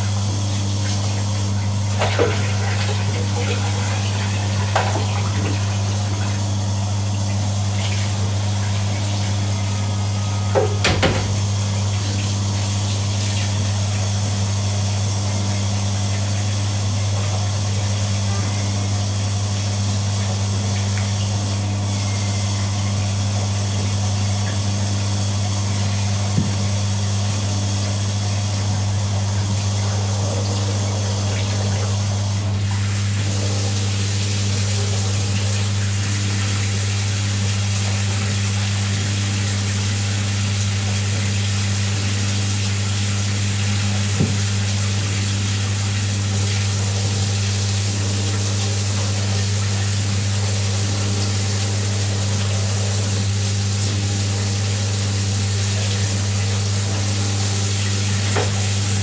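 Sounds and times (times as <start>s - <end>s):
low motor hum: 0.0s - 59.0s.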